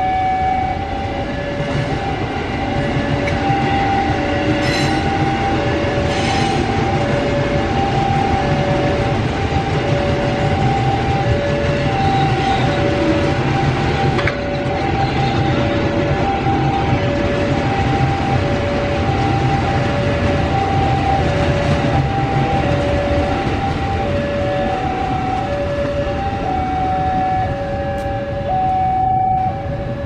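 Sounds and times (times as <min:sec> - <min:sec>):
trains rumbling past on rails: 0:00.0 - 0:30.0
two-tone crossing alarm: 0:00.0 - 0:30.0.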